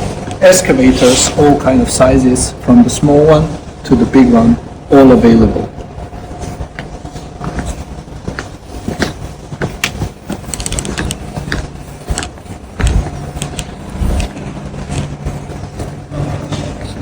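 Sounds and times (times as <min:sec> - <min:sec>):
faint mechanical hum: 0:00.0 - 0:17.0.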